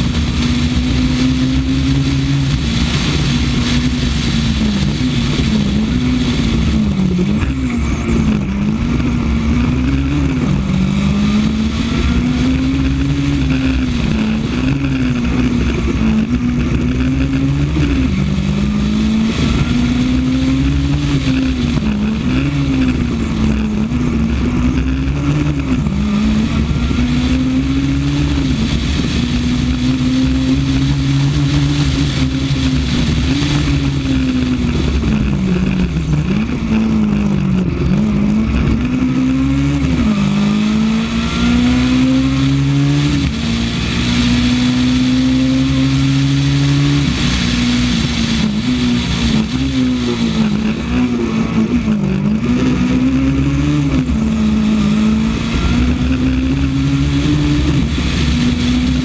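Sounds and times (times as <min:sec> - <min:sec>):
rally car engine revving: 0:00.0 - 0:59.0
road noise rumble: 0:00.0 - 0:59.0.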